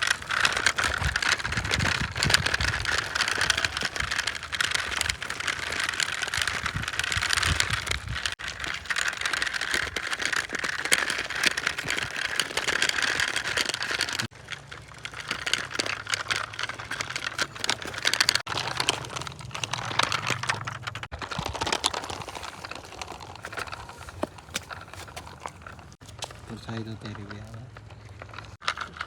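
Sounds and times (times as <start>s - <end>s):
toy vehicles rattling and clicking: 0.0s - 29.0s.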